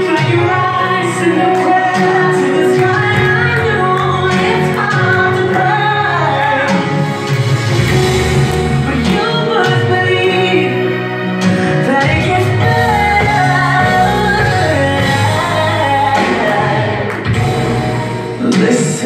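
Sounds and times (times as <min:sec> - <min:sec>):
woman singing gospel song: 0:00.0 - 0:07.1, 0:08.8 - 0:11.0, 0:11.8 - 0:17.4, 0:18.4 - 0:19.0
band accompaniment: 0:00.0 - 0:19.0.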